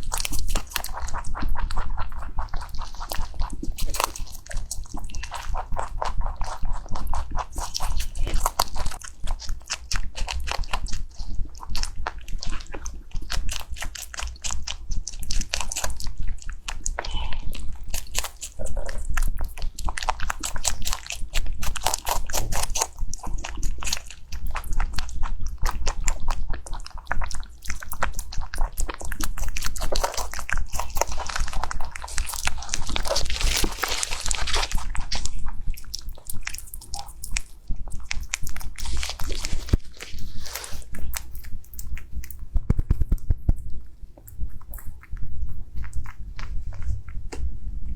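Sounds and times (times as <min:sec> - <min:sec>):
small animal crunching food: 0:00.0 - 0:47.6.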